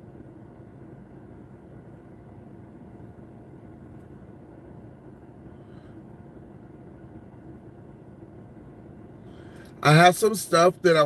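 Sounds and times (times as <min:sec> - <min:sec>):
car engine hum inside cabin: 0:00.0 - 0:11.0.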